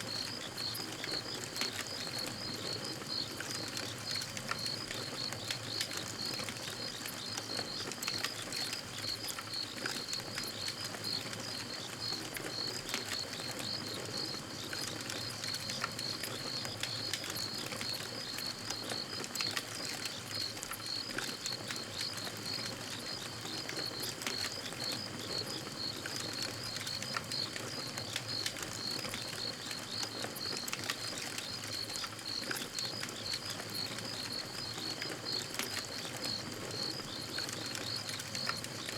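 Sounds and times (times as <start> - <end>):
campfire crackling and popping: 0.1 - 38.9.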